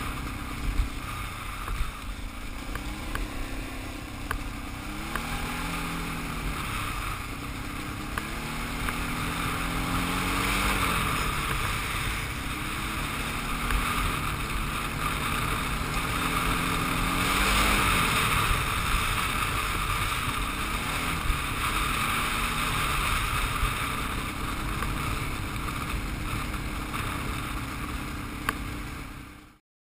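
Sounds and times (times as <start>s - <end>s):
wind rushing over microphone: 0.0s - 29.1s
quad bike engine revving: 0.0s - 29.6s.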